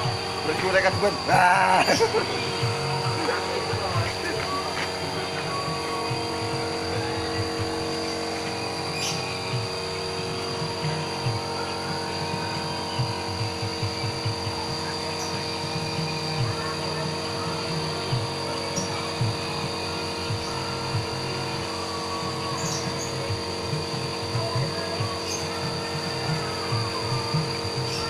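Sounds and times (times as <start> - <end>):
wavering low rumble: 0.0 - 27.9
mechanical hum with fixed tones: 0.0 - 28.0.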